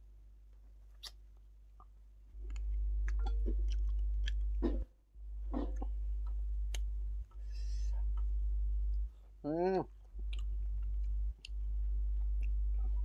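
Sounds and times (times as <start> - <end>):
man chewing food: 0.8 - 13.0
loud low hum: 2.3 - 13.0.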